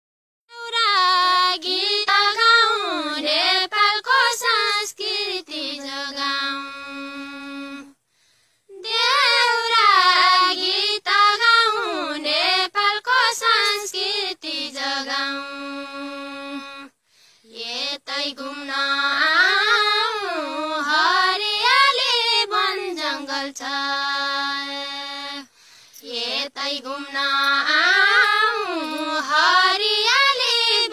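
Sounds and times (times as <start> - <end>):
woman singing unaccompanied: 0.5 - 8.0, 8.7 - 30.9.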